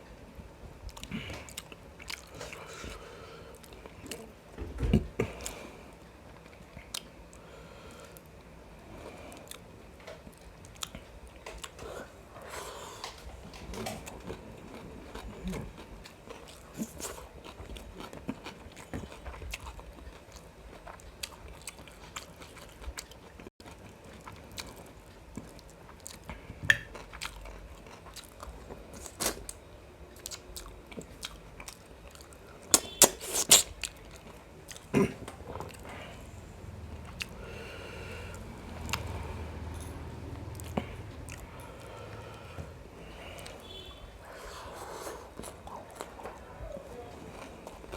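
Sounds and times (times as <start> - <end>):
person chewing food: 0.8 - 4.3, 5.0 - 36.4, 37.0 - 47.9.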